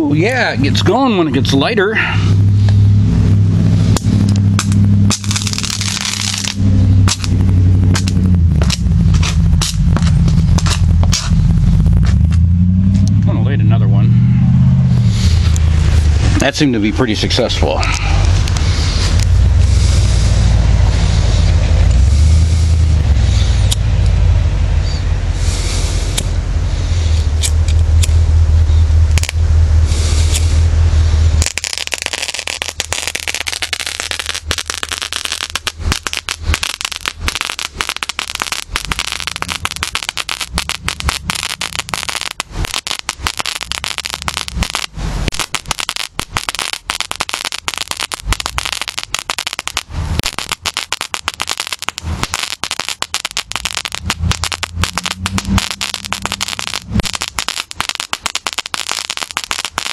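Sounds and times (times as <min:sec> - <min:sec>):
firework crackling: 0:00.0 - 0:13.8, 0:14.9 - 0:24.1, 0:24.8 - 0:59.9
low rumble: 0:00.0 - 0:59.9.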